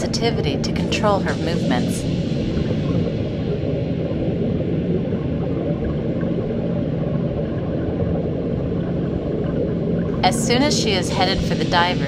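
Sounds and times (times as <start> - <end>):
underwater low rumble: 0.0 - 12.0.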